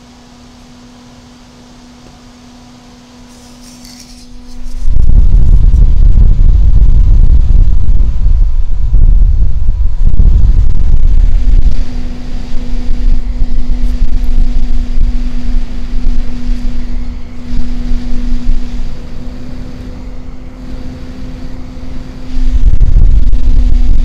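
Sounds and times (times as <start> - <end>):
airflow buffeting microphone: 0.0 - 24.0
computer fan humming: 0.0 - 24.0.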